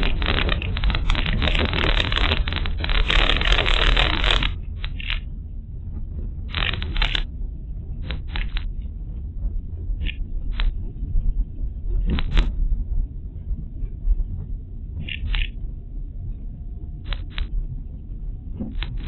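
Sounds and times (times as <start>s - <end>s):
car cabin low rumble: 0.0s - 19.0s.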